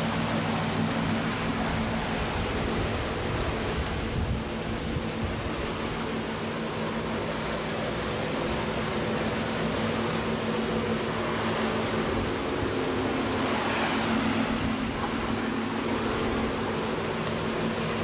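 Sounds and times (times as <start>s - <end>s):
boat engines droning: 0.0s - 18.0s
water rushing: 0.0s - 18.0s.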